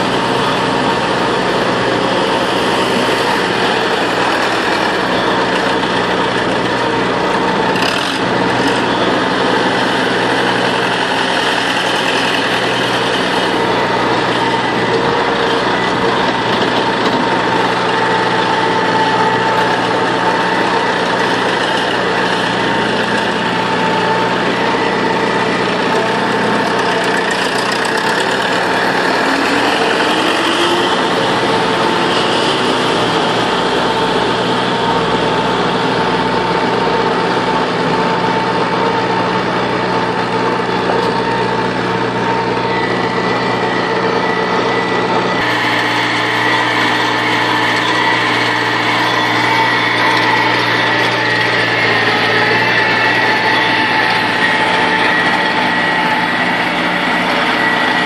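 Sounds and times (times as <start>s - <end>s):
feed mixer wagon running: 0.0s - 58.0s
tractor engine running: 0.0s - 58.0s.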